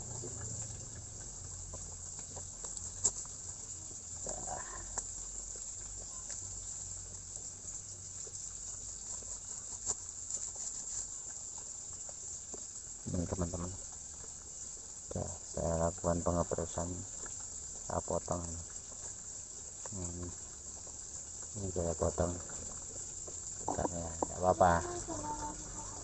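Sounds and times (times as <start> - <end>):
crickets chirring: 0.0 - 26.0.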